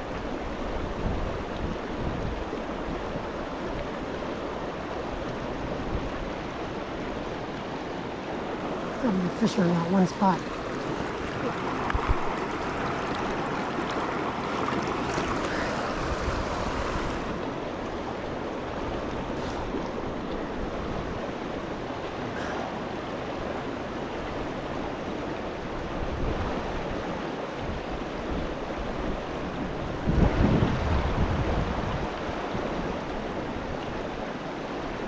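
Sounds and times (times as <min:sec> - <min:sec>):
mountain river rushing: 0:00.0 - 0:35.0.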